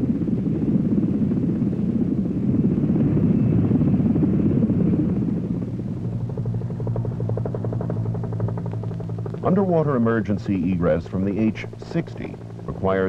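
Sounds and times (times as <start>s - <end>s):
helicopter drone with blade chop: 0.0s - 13.0s
helicopter rotor and engine rumbling: 0.0s - 13.0s.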